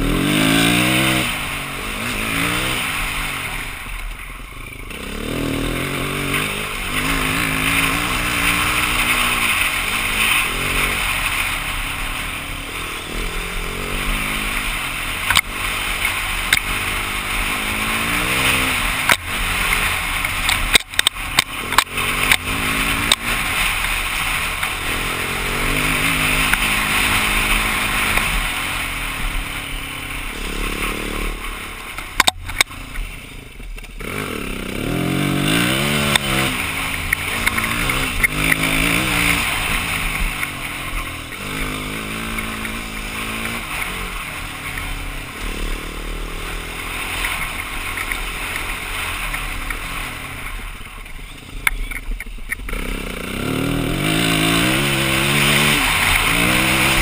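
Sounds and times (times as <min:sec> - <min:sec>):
dirt bike engine revving: 0:00.0 - 0:52.0, 0:52.6 - 0:57.0.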